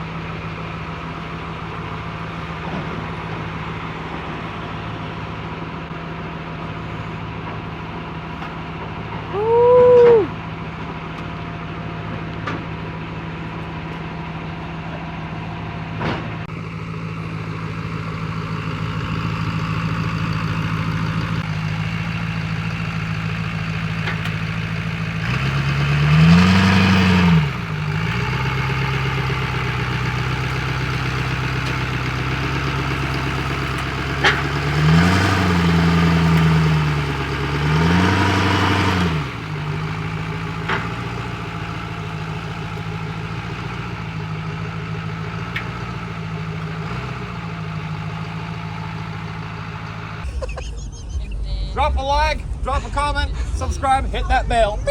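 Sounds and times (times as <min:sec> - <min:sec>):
truck engine idling and revving: 0:00.0 - 0:54.9.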